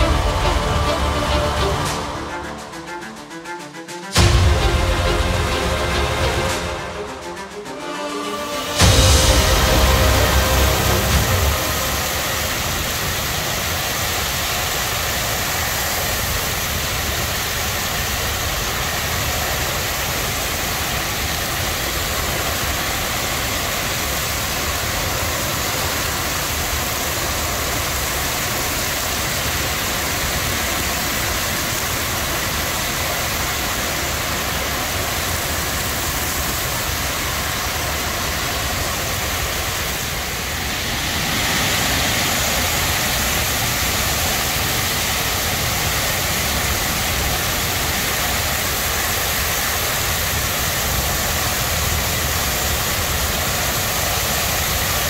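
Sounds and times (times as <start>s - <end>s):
torrential rain pouring: 0.0s - 2.8s, 4.2s - 55.0s.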